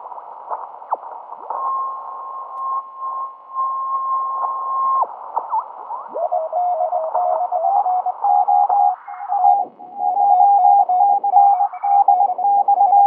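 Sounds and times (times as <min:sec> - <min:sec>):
radio band hiss: 0:00.0 - 0:13.0.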